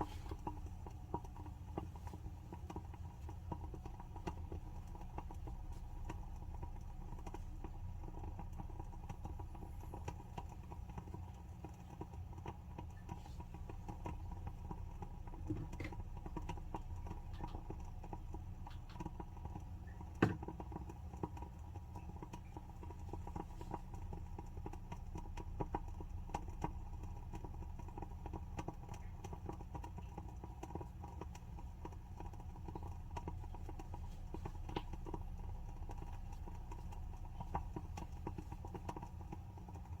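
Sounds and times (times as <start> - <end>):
candle wick crackling: 0.0 - 40.0.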